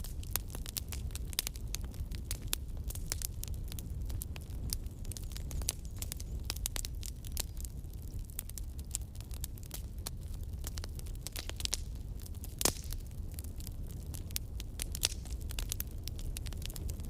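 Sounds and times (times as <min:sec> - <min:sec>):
low rumble of flame: 0:00.0 - 0:17.0
wood crackling and popping: 0:00.0 - 0:17.0.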